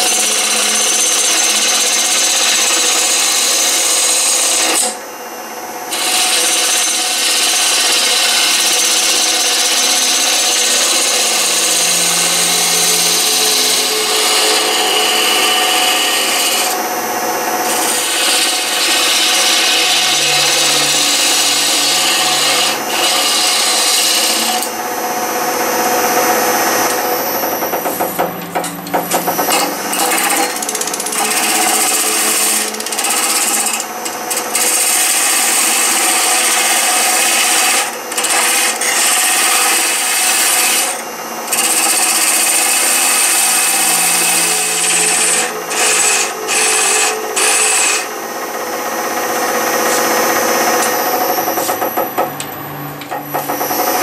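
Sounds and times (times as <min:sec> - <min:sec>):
gouge cutting wood: 0:00.0 - 0:05.0, 0:05.9 - 0:16.9, 0:17.6 - 0:24.8, 0:26.3 - 0:48.2
lathe humming: 0:00.0 - 0:54.0.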